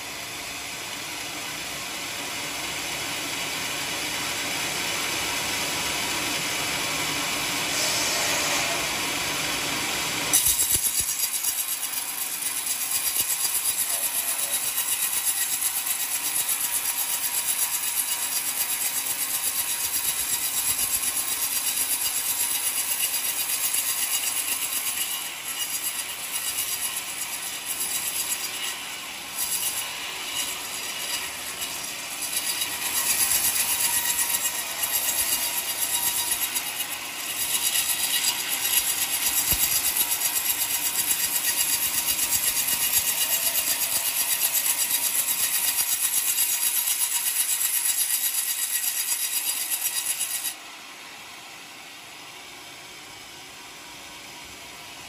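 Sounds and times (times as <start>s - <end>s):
band saw cutting log: 0.0s - 50.6s.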